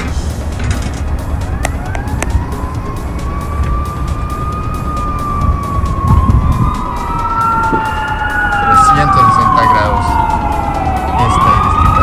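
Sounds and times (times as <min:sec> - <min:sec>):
wind rumbling on microphone: 0:00.0 - 0:12.0
emergency siren wailing: 0:00.2 - 0:12.0
second siren: 0:01.2 - 0:12.0.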